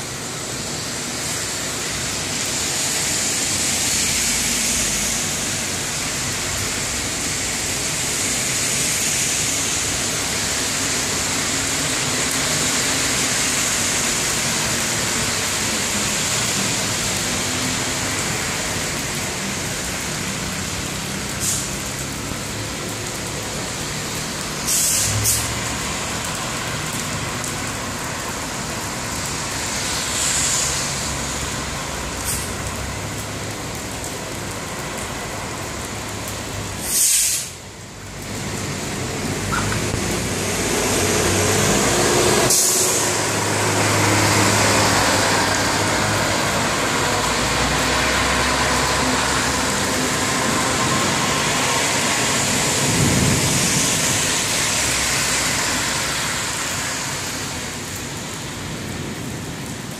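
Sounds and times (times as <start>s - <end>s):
car tyres swishing on wet road: 0.0s - 59.9s
heavy rain on pavement: 0.0s - 59.9s.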